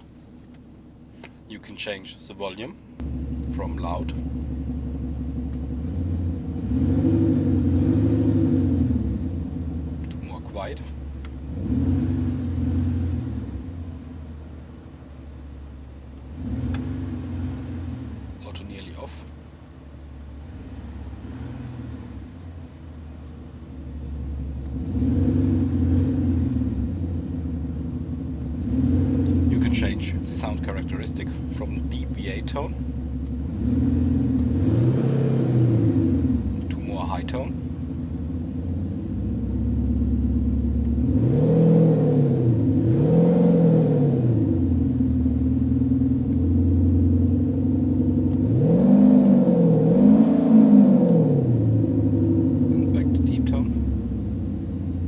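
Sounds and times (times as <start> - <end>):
car engine running deep: 0.0 - 55.0.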